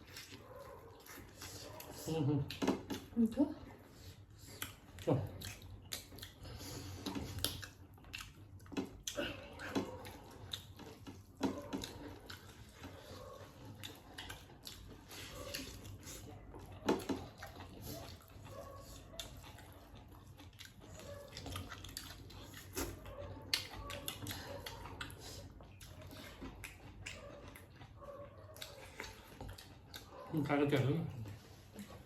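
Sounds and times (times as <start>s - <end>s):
wet chewing and mouth smacks: 0.0s - 3.2s, 3.8s - 32.0s.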